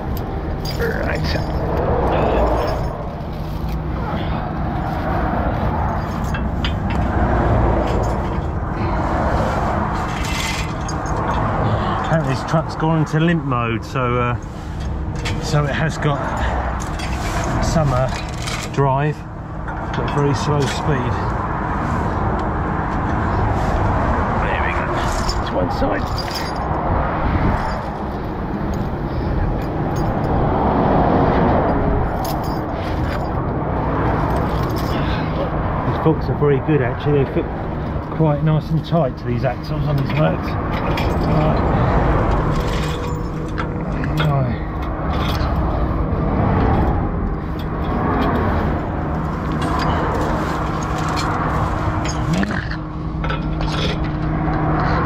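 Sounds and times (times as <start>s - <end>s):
lorry passing close by: 0.0s - 13.7s, 19.6s - 55.0s
motorway traffic rumble: 0.0s - 55.0s
vehicles rushing past: 0.0s - 55.0s.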